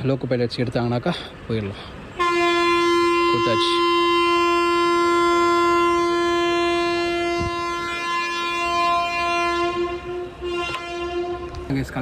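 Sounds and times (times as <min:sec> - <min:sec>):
train horn long note: 0:02.2 - 0:12.0.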